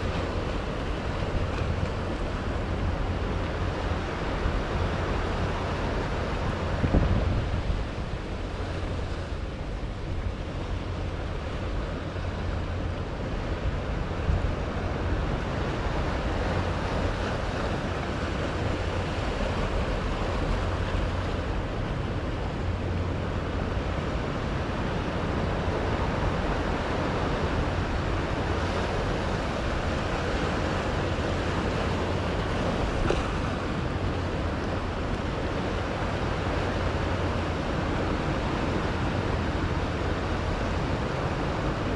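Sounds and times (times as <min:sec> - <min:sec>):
waves breaking over rocks: 0:00.0 - 0:41.9
wind rumble on microphone: 0:00.0 - 0:41.9.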